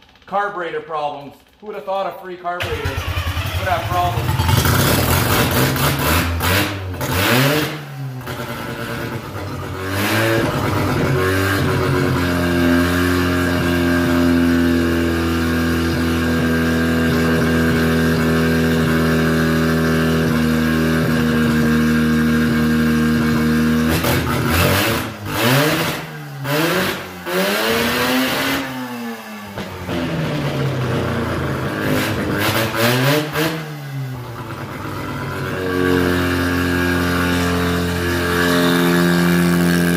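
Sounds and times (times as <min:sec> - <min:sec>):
rotary engine revving: 0:02.6 - 0:39.9.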